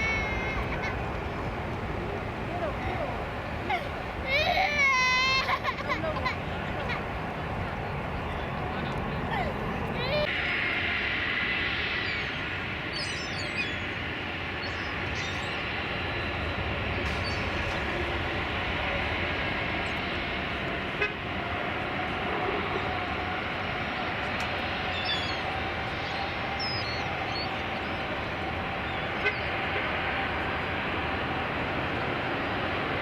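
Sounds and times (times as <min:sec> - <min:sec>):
jet engines running with whine: 0:00.0 - 0:33.0.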